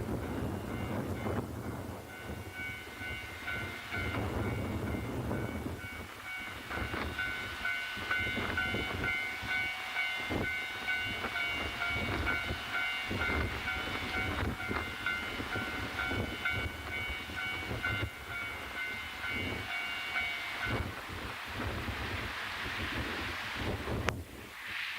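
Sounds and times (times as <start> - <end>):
wind buffeting microphone: 0.0 - 24.5
diesel train running: 0.0 - 24.8.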